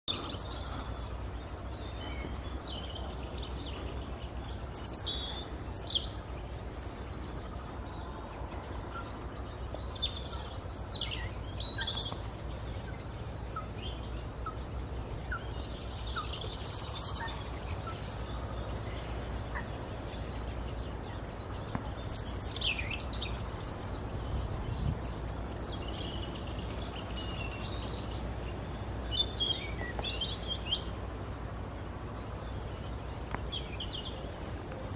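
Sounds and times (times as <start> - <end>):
songbirds chirping: 0.0 - 34.9
steady low rumble: 0.1 - 34.9.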